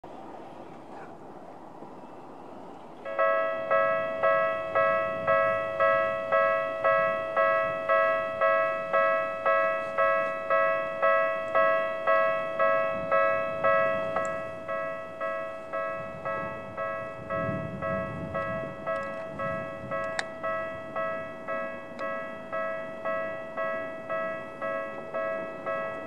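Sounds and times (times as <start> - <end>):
level crossing warning bell: 3.0 - 26.0.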